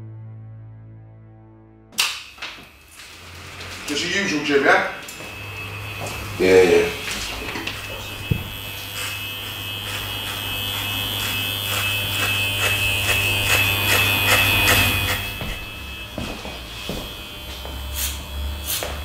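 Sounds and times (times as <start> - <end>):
electric hair clippers buzzing: 2.0 - 19.0.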